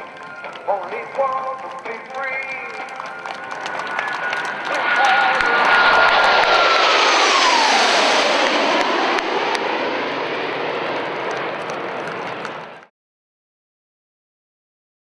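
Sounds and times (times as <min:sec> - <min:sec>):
jet flying past: 0:00.0 - 0:12.9.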